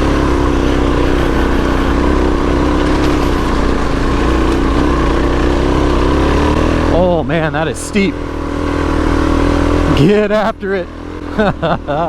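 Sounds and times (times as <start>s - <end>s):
dirt bike engine running steadily: 0.0s - 12.0s.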